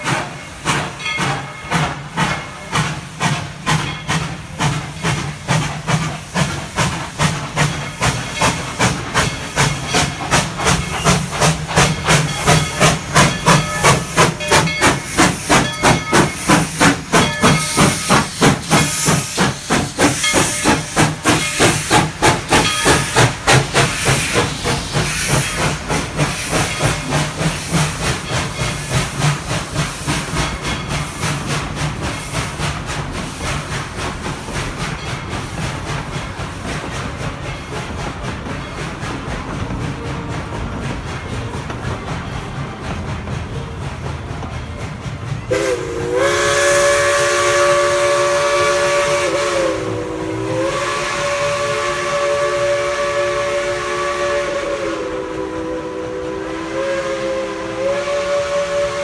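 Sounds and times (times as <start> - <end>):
steam hissing: 0.0 - 59.0
steam locomotive chuffing: 0.0 - 59.0
train coaches passing: 0.0 - 59.0.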